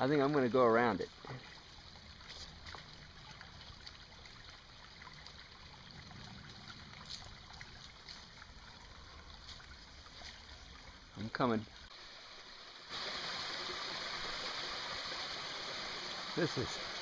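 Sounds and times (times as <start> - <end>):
creek trickling: 0.0 - 17.0.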